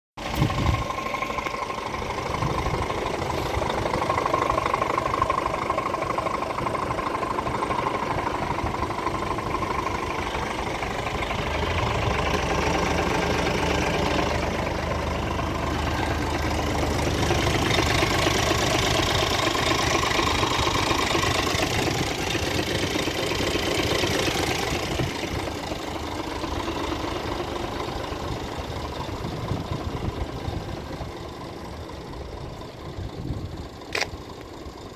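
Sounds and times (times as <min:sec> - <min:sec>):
truck diesel engine idling: 0:00.2 - 0:34.9.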